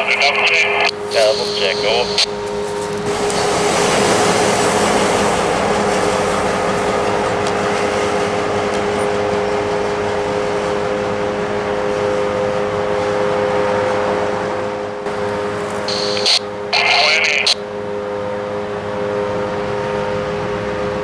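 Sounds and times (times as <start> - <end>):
diesel locomotive droning: 0.0 - 21.0.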